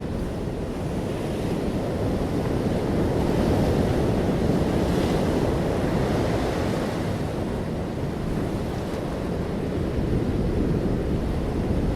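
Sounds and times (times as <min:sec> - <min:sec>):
ocean surf rushing: 0:00.0 - 0:11.9
wind: 0:00.0 - 0:11.9.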